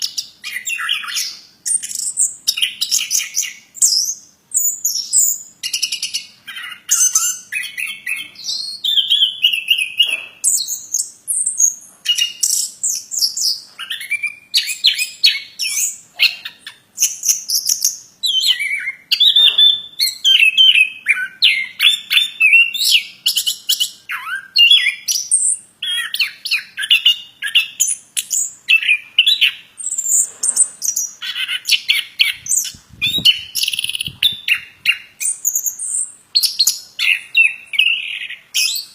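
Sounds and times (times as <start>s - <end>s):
songbird chattering song: 0.0s - 38.9s.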